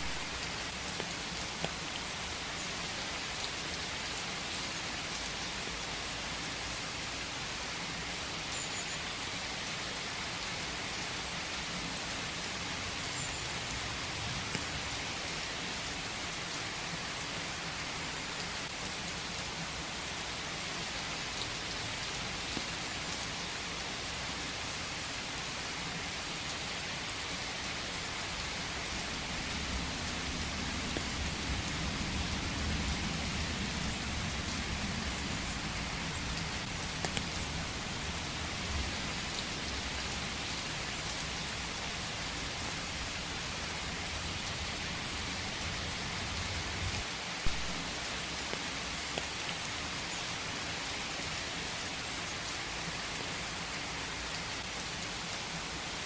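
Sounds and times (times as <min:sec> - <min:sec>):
rain falling in a forest: 0:00.0 - 0:56.0.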